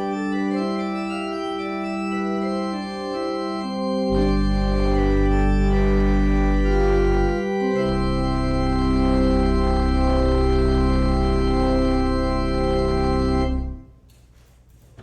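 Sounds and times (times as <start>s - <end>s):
deep organ bass notes: 0.0s - 13.9s
organ playing sustained chords: 0.0s - 13.9s.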